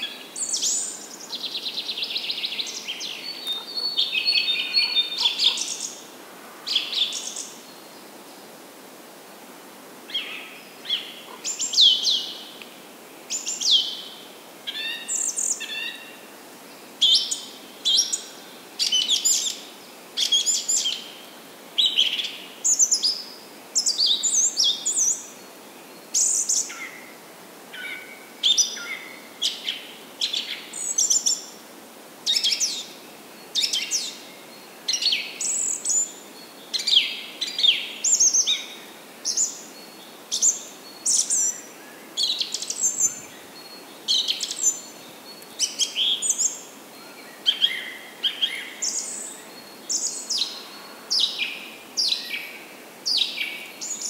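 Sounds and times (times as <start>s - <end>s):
small birds chirping and singing: 0.0s - 6.1s, 6.7s - 8.4s, 10.1s - 27.0s, 27.8s - 31.6s, 32.3s - 54.0s.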